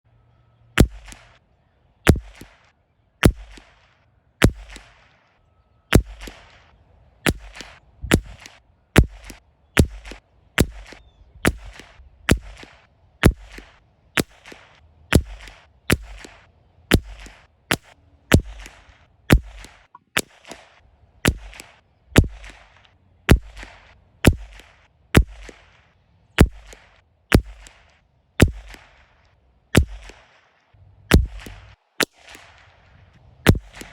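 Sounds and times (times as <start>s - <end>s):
rifle shots: 0.8s - 1.4s, 2.1s - 5.3s, 5.9s - 33.9s.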